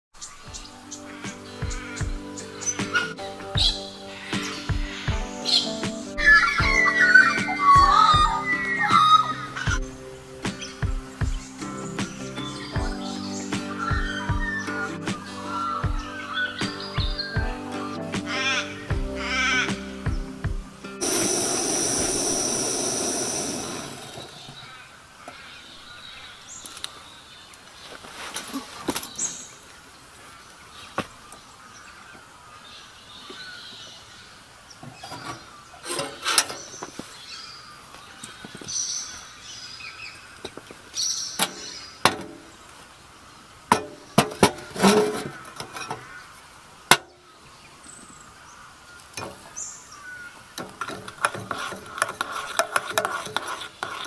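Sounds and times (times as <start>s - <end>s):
faint birds chirping: 0.2s - 54.0s.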